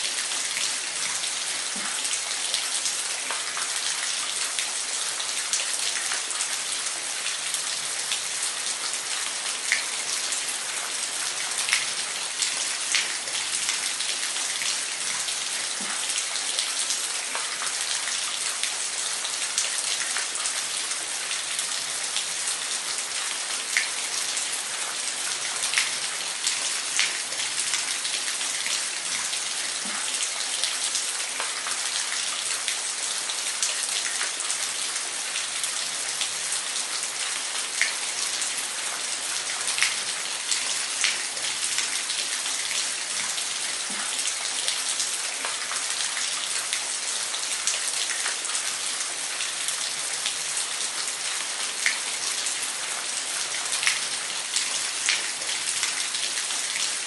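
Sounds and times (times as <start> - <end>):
water splashes and drips: 0.0 - 57.0.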